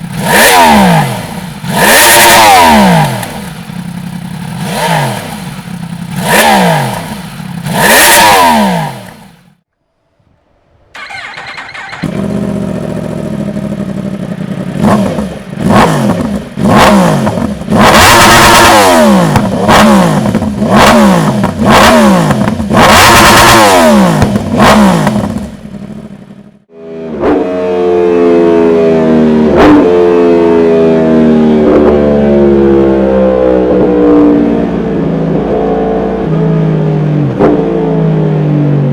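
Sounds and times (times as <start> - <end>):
motorcycle engine revving: 0.0 - 9.6, 11.0 - 38.9.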